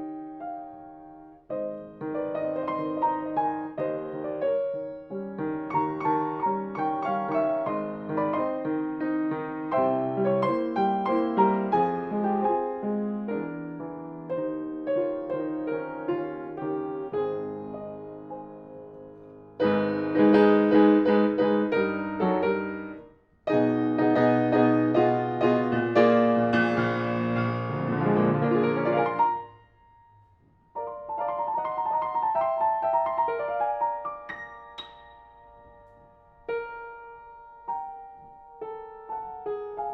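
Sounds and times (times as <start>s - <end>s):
grand piano playing: 0.0s - 39.9s.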